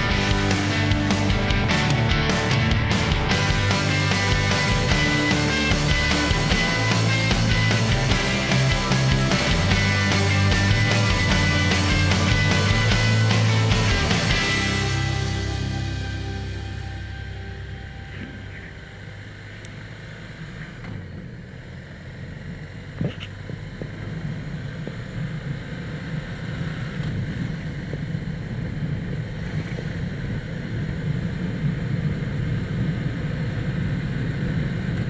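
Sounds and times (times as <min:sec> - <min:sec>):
motorcycle engine running: 0:00.0 - 0:35.0
wind and road noise: 0:00.0 - 0:35.0.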